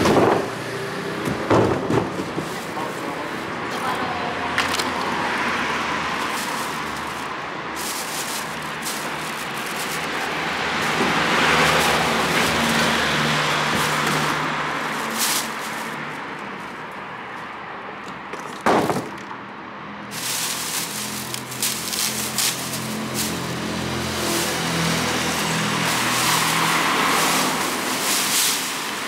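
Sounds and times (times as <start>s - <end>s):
road traffic passing: 0.0s - 29.0s
plastic wrap crackling: 1.8s - 17.0s, 20.1s - 29.0s.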